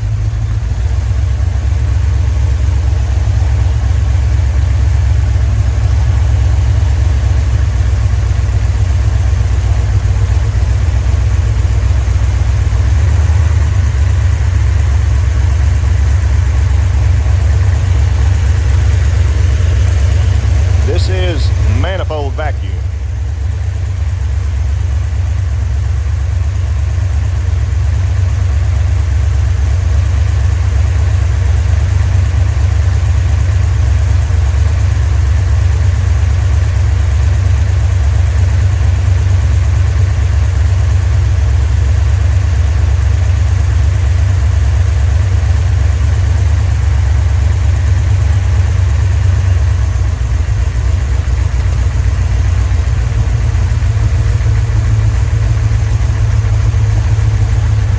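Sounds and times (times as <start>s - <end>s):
engine idling deep rumble: 0.0s - 57.9s.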